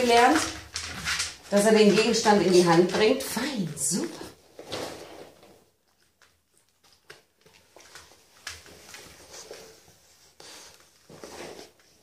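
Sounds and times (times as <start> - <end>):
dog rustling and tapping: 0.0 - 12.0.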